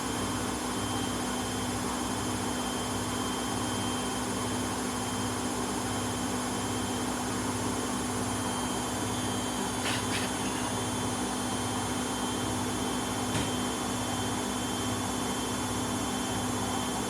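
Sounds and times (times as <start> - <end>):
washing machine mechanical hum: 0.0 - 17.0.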